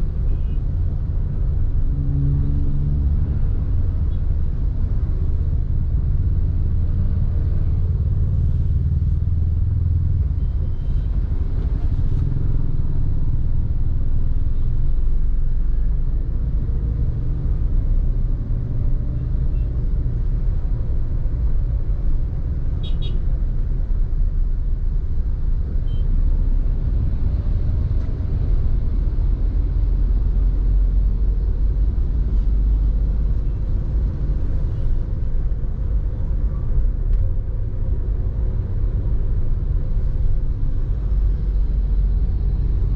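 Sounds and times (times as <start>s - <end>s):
road traffic rumbling: 0.0s - 42.9s.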